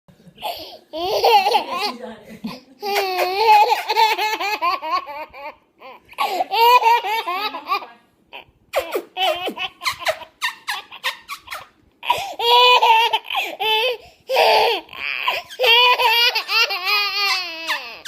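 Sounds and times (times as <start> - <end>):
baby laughing: 0.4 - 18.0.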